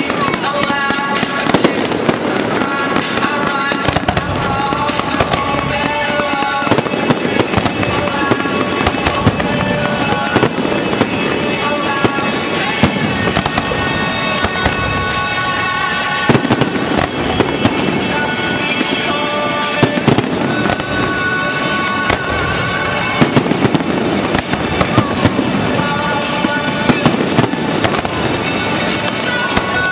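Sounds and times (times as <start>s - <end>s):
fireworks bursting: 0.0s - 29.9s
pop music: 0.0s - 29.9s.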